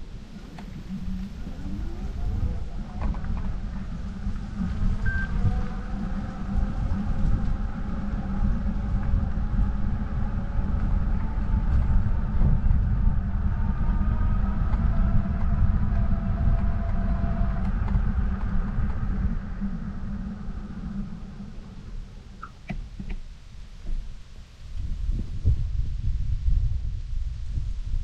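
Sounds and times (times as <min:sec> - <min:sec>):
faint wavering hum tones: 0:00.0 - 0:28.0
wind rumble on microphone: 0:00.0 - 0:28.0.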